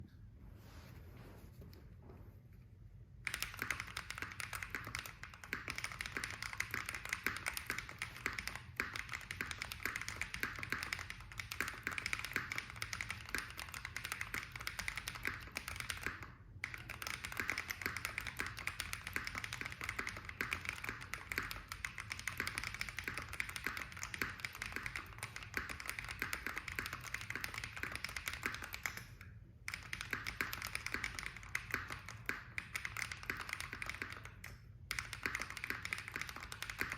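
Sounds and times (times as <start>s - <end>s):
mechanical keyboard typing: 3.2s - 36.9s.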